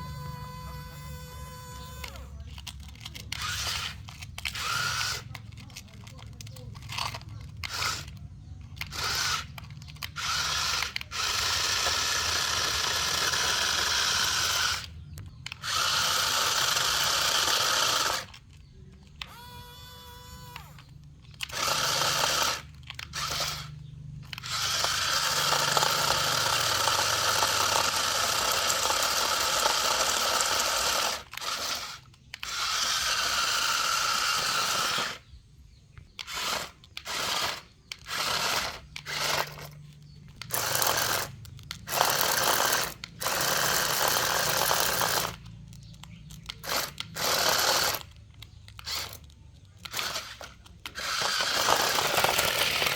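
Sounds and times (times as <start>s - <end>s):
toy truck motor whirring: 0.0s - 52.9s.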